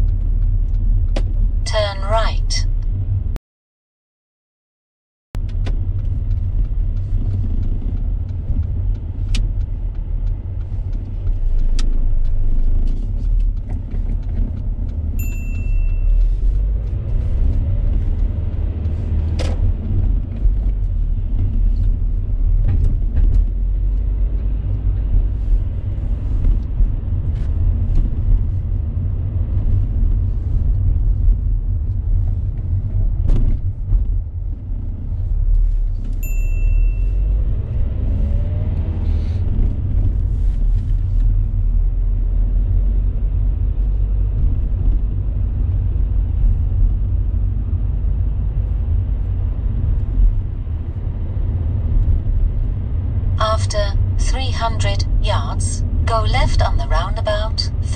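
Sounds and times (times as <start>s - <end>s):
car engine and road rumble: 0.0s - 3.4s, 5.4s - 57.9s.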